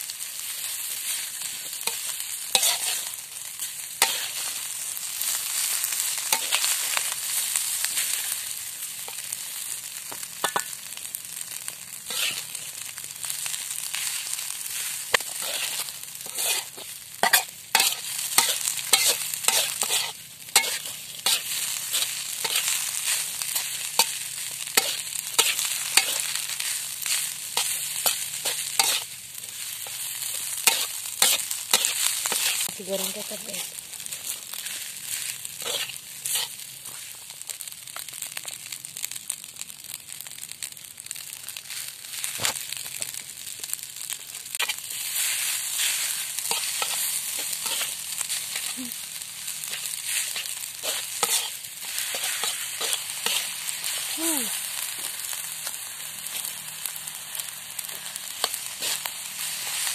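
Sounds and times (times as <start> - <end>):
rice sizzling in a wok: 0.0 - 59.9
spatula scraping a metal wok: 0.4 - 9.7, 11.9 - 37.3, 44.5 - 59.9.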